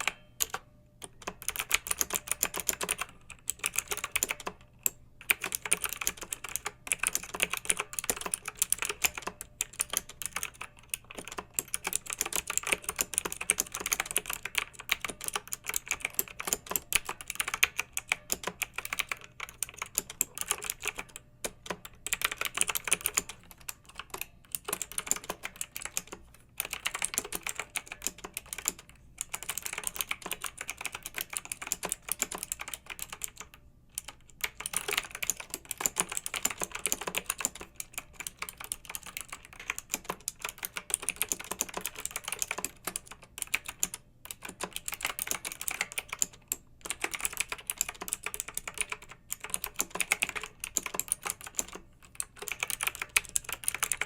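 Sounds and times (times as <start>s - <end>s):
fast typing on mechanical keyboard: 0.0s - 54.0s.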